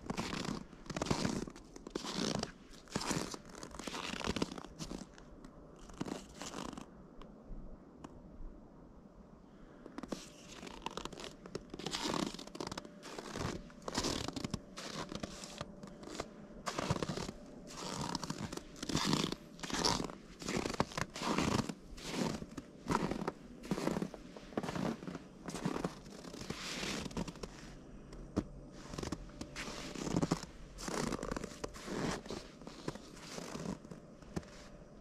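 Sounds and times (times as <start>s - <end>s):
footsteps crunching in snow: 0.0s - 5.2s, 5.8s - 6.8s, 10.0s - 27.8s, 28.4s - 34.8s.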